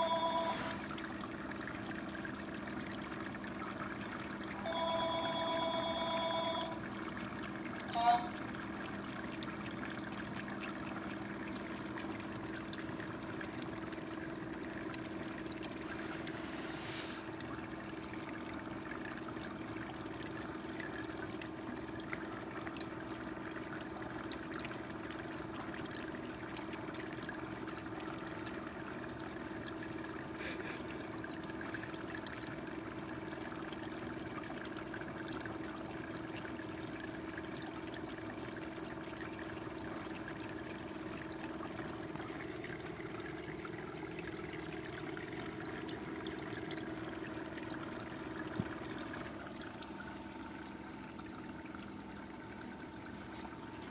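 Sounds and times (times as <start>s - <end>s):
low electric pump hum: 0.0s - 53.9s
water trickling: 0.0s - 53.9s.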